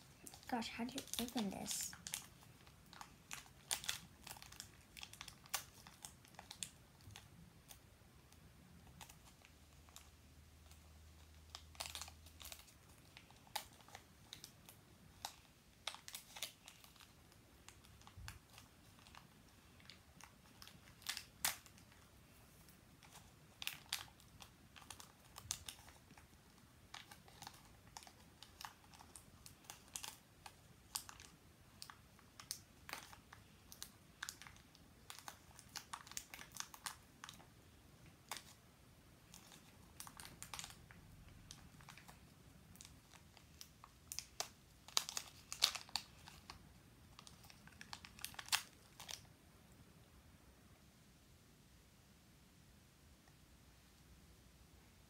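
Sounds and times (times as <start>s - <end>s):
plastic packaging crinkling: 0.2s - 7.8s, 8.7s - 37.5s, 38.1s - 38.6s, 39.2s - 49.3s.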